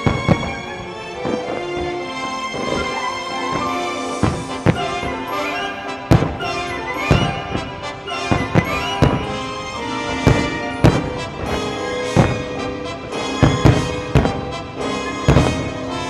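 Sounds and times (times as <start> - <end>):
firework shells bursting: 0.0 - 16.0
music playing: 0.0 - 16.0.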